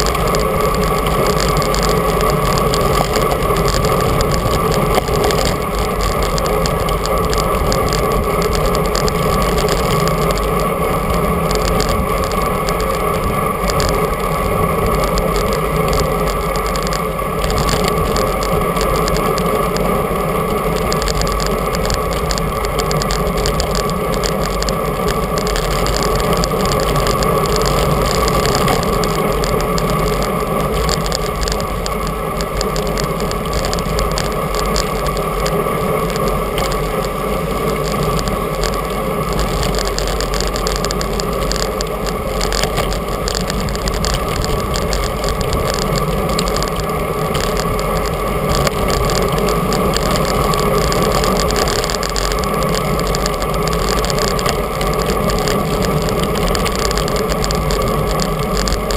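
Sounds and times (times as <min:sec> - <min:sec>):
bicycle tyre noise: 0:00.0 - 0:58.9.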